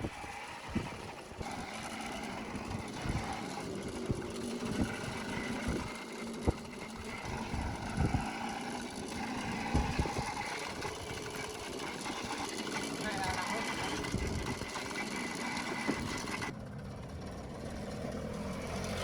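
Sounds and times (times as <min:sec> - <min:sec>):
moped engine running: 0:00.0 - 0:19.0.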